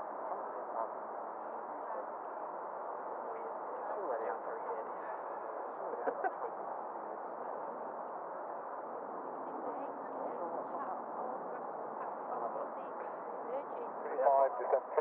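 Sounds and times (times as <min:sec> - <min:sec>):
radio channel hiss: 0:00.0 - 0:15.0.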